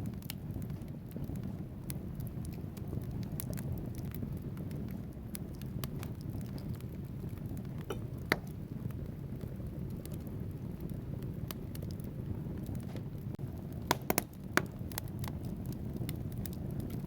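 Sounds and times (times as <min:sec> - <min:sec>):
flames rumbling: 0:00.0 - 0:17.0
logs crackling and popping: 0:00.0 - 0:17.0.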